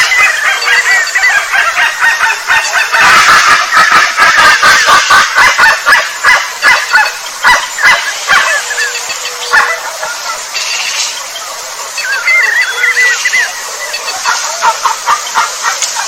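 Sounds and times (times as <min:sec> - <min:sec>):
animal calls in rapid notes: 0:00.0 - 0:16.0.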